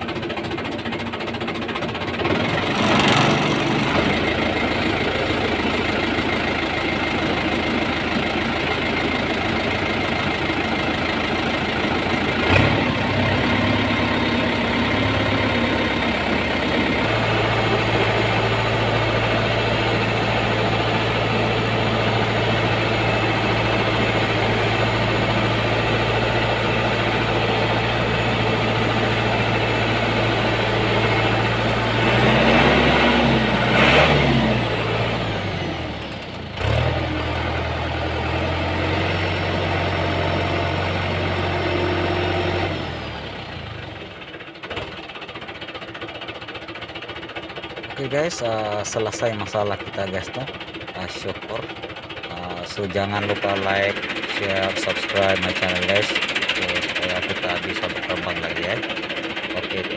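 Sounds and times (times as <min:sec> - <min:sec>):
tractor diesel engine idling: 0:00.0 - 0:59.9
engine revving: 0:02.2 - 0:10.6, 0:11.4 - 0:45.0, 0:52.3 - 0:59.9.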